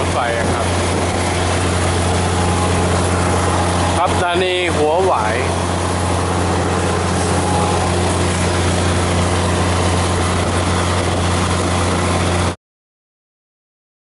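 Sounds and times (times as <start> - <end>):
diesel train engine drone: 0.0 - 12.6.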